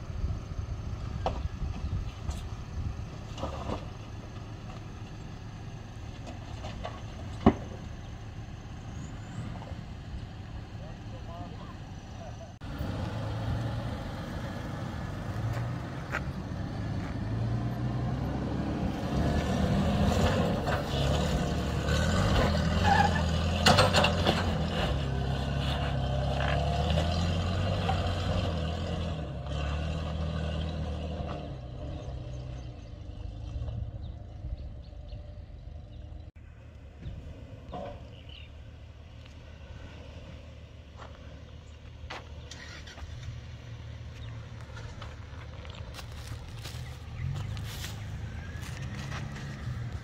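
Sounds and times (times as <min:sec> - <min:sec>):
off-road vehicle engine revving: 0:00.0 - 0:36.4, 0:37.0 - 0:50.0.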